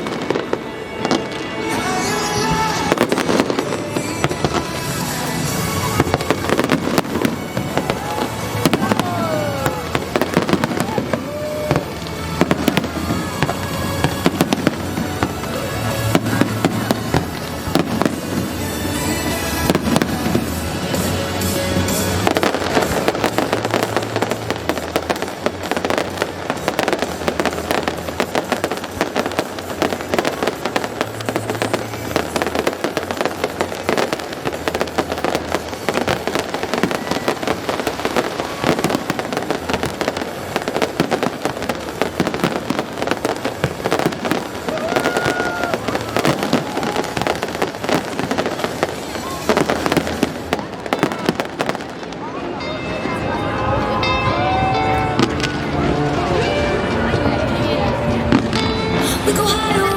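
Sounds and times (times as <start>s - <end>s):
fireworks bursting and crackling: 0.0s - 59.9s
music playing: 0.0s - 59.9s.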